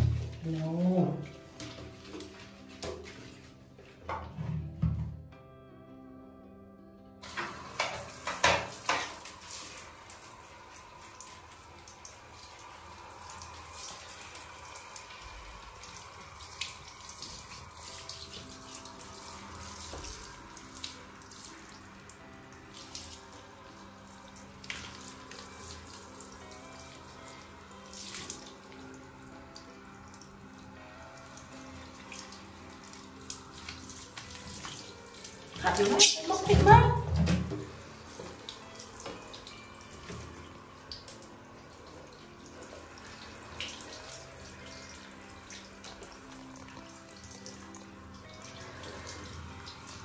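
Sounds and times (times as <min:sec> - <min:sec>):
water splashing on tiled floor: 0:00.0 - 0:04.1, 0:07.2 - 0:50.0.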